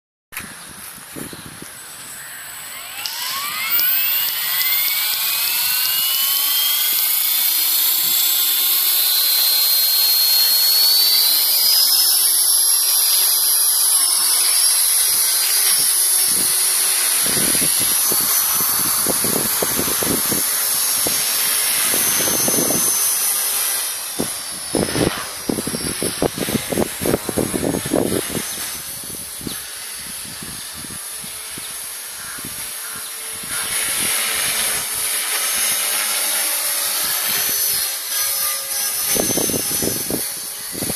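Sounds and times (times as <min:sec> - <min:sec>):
helicopter rotor whine: 0:01.4 - 0:40.9.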